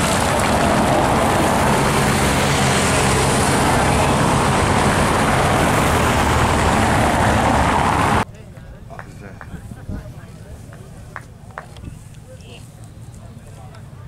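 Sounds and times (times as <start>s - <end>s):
vehicles on cobbled road: 0.0s - 14.0s.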